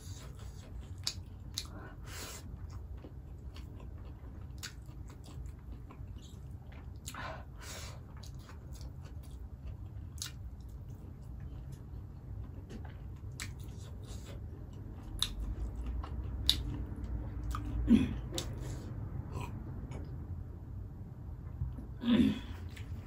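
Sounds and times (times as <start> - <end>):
chewing and wet mouth sounds: 0.0 - 20.3, 22.6 - 23.0.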